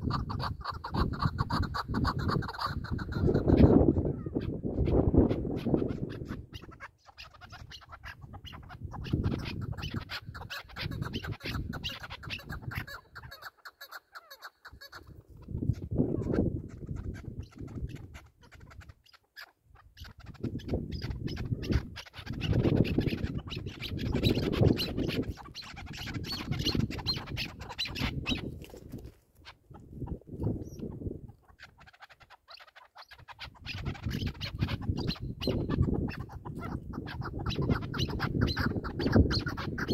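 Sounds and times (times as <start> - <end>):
wind buffeting microphone: 0.0 - 13.3, 15.0 - 19.0, 20.0 - 31.5, 33.3 - 39.9.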